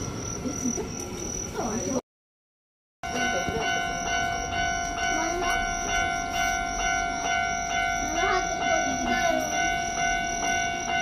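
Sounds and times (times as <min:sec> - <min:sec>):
level crossing warning bell: 0:00.0 - 0:02.0, 0:03.0 - 0:11.0.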